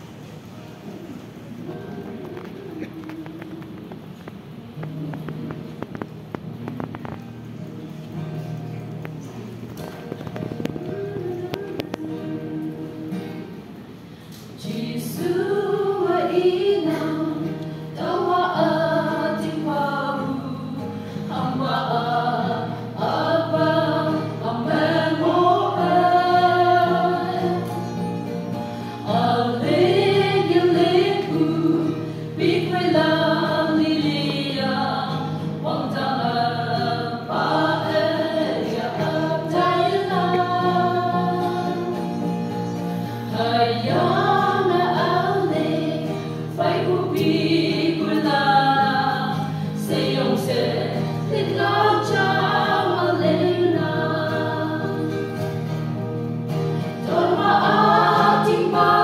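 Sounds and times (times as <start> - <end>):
choir singing a hymn: 10.2 - 13.8, 14.5 - 59.0.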